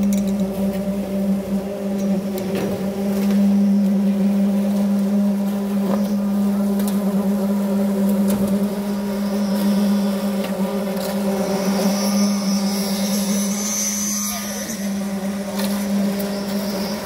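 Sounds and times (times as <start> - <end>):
concrete vibrator humming: 0.0 - 17.0.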